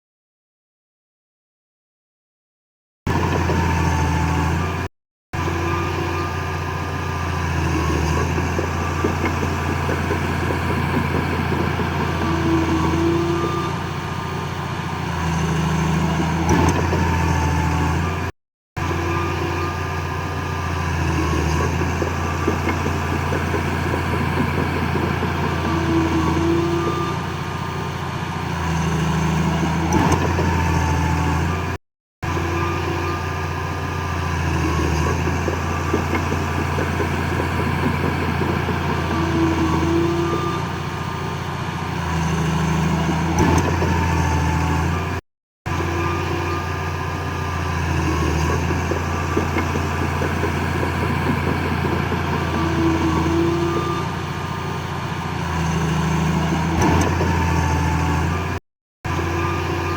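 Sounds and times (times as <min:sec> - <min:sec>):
heavy machinery diesel engine: 0:03.1 - 0:59.9.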